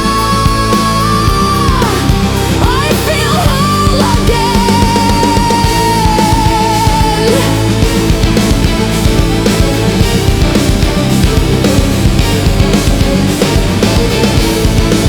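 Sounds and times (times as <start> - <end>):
lead guitar holding bent notes: 0.0 - 15.0
rock drums and bass: 0.0 - 15.0.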